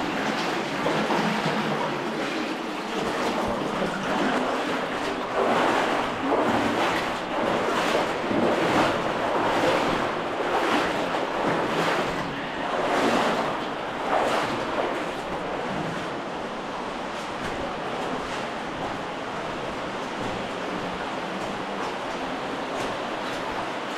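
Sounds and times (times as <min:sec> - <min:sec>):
water sloshing and splashing: 0:00.0 - 0:23.9.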